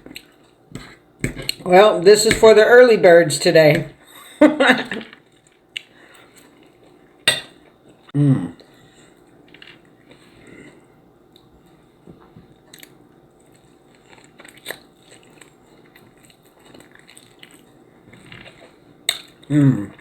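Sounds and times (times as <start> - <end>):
person chewing food: 0.0 - 1.7, 5.2 - 20.0.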